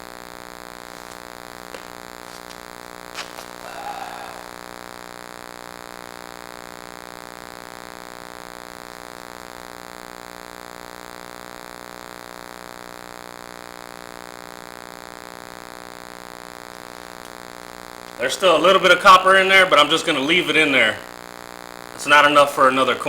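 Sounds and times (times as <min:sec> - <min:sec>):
electronic buzzing whine: 0:00.0 - 0:18.2, 0:21.1 - 0:22.0
hum and hiss: 0:00.0 - 0:23.0.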